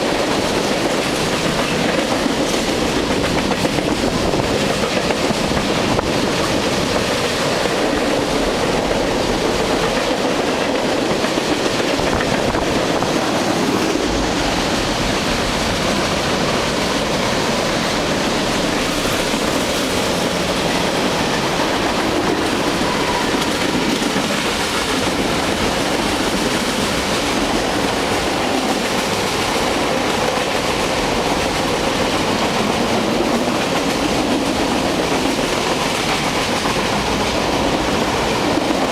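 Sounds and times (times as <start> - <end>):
train cars rolling by: 0.0 - 38.9.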